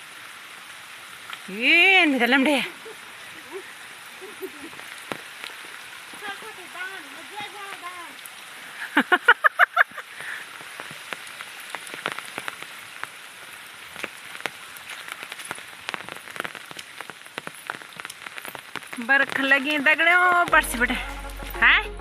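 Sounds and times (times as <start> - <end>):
rain falling: 0.0 - 22.0
raindrops ticking: 0.0 - 22.0.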